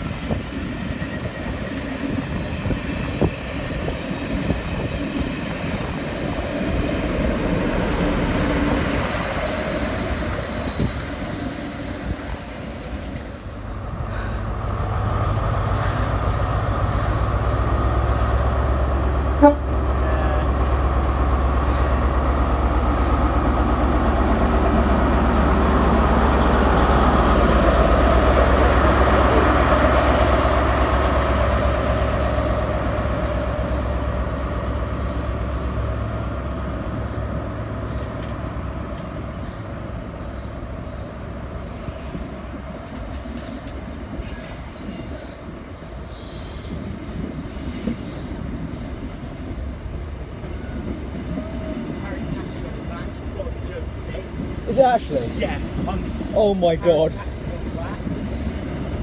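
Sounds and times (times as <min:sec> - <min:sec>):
diesel train engine drone: 0:00.0 - 0:59.0
rail noise with clicks: 0:00.0 - 0:59.0.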